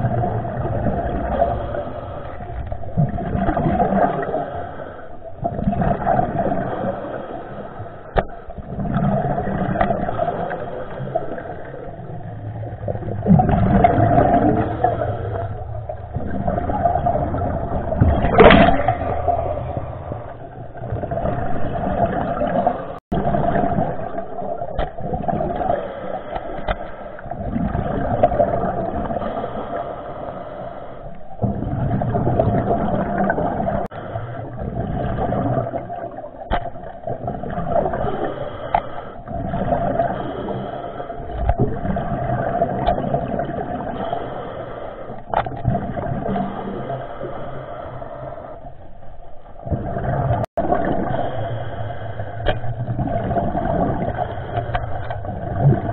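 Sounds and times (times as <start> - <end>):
muffled underwater water rushing: 0.0 - 55.9.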